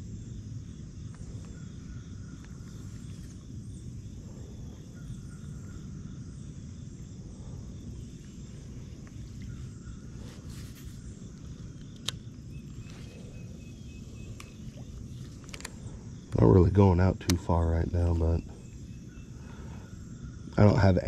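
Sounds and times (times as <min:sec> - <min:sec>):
high insect drone: 0:00.0 - 0:21.0
insects chirping: 0:00.0 - 0:21.0
steady low rumble: 0:00.0 - 0:21.0.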